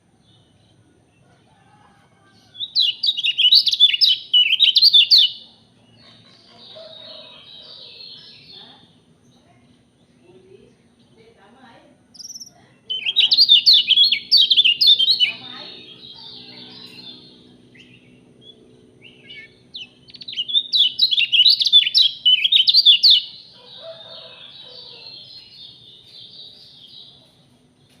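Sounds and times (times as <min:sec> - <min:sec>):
songbird chirping and trilling: 0:00.0 - 0:28.0.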